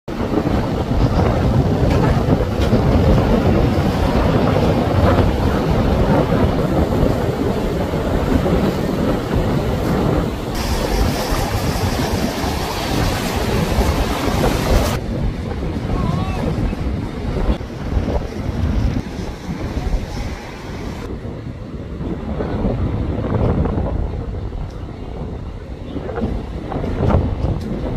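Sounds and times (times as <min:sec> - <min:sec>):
surf and choppy sea water: 0:00.1 - 0:27.9
wind buffeting microphone: 0:00.1 - 0:27.9.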